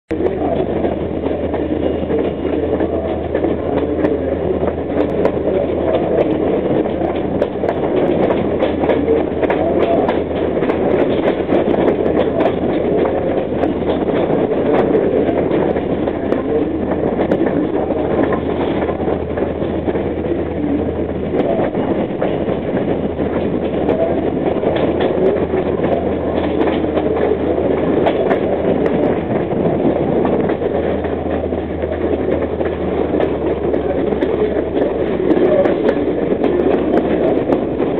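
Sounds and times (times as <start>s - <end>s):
wheel and rail noise: 0.1s - 37.9s.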